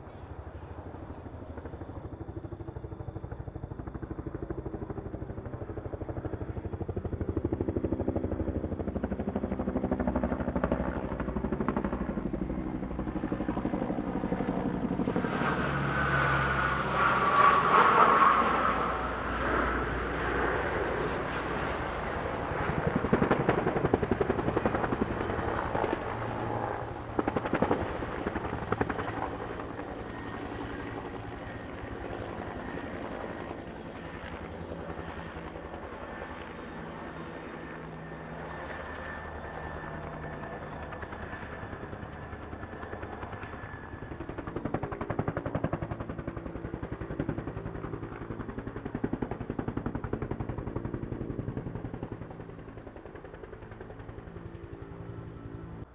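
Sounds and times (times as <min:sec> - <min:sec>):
helicopter turbine and rotor: 0:00.0 - 0:55.9
turboprop aircraft engines overhead: 0:00.0 - 0:55.9.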